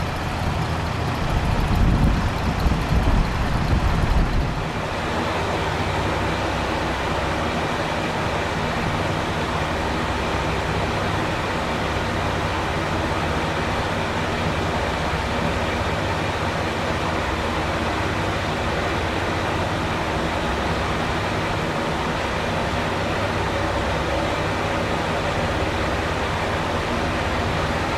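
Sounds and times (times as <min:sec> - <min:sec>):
diesel railcar engines running: 0:00.0 - 0:27.9
steady rushing noise: 0:00.0 - 0:27.9.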